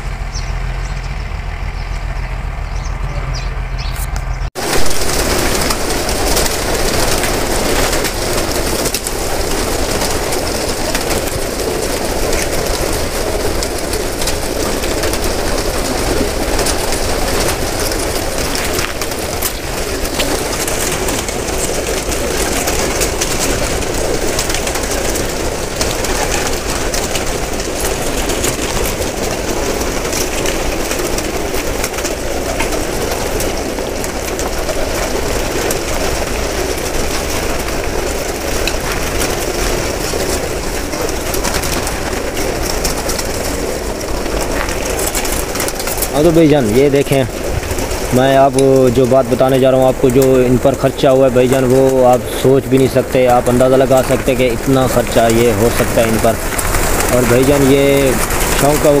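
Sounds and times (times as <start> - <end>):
pigeons cooing: 0.0 - 59.0
wings flapping: 0.0 - 59.0.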